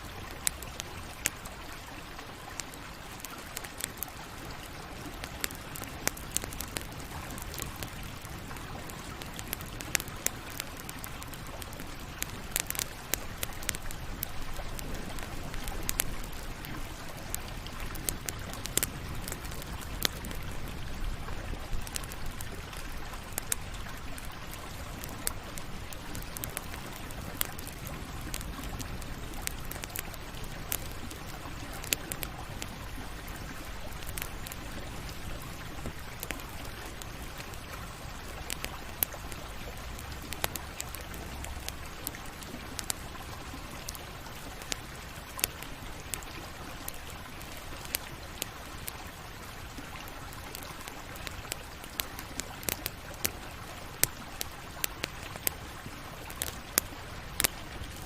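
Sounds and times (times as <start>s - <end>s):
burning wood crackling and popping: 0.0s - 58.0s
campfire flames hissing: 0.0s - 58.0s.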